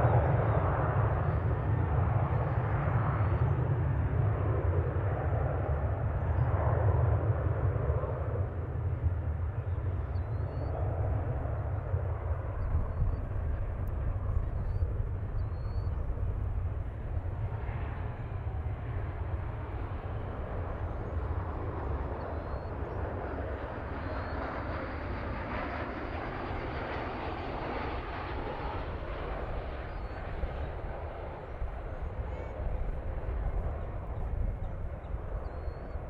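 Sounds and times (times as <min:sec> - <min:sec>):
jet airliner engine roar: 0:00.0 - 0:36.0.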